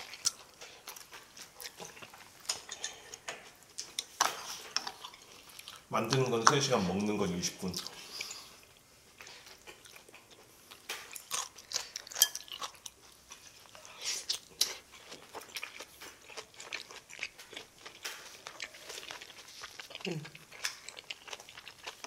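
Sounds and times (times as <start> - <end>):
person chewing and crunching: 0.0 - 22.0.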